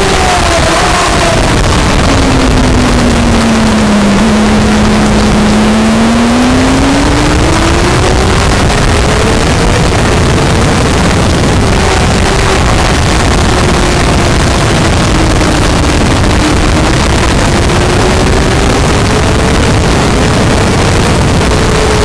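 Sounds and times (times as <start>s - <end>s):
motorcycle engine revving: 0.0s - 22.0s
wind rush: 0.0s - 22.0s.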